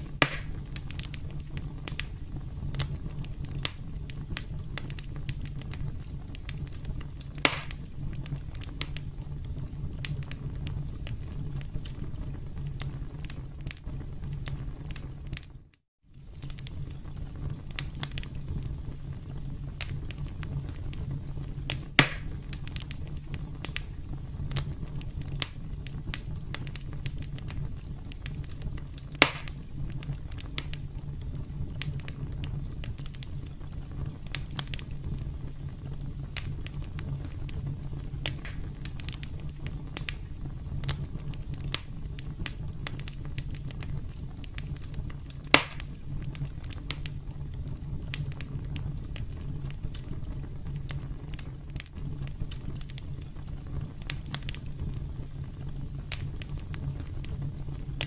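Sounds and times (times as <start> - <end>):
campfire crackling: 0.0 - 58.0
sharp fire pops: 0.0 - 58.0.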